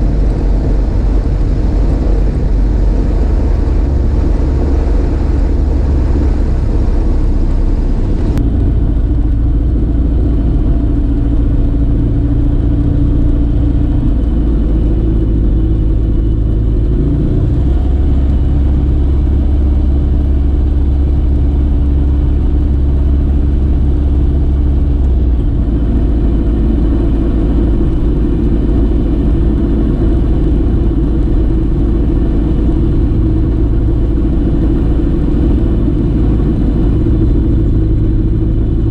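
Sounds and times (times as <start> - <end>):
aircraft engine and propeller hum: 0.0 - 38.9.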